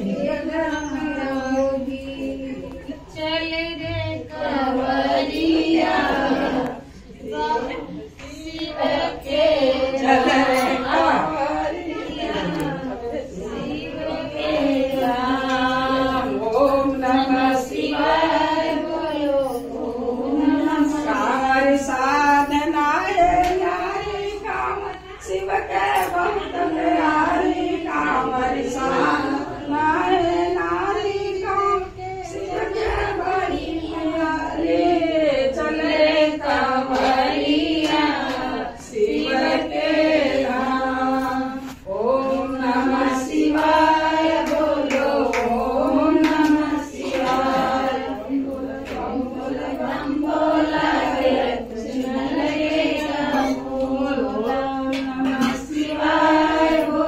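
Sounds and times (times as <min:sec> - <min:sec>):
women singing together: 0:00.0 - 0:57.0.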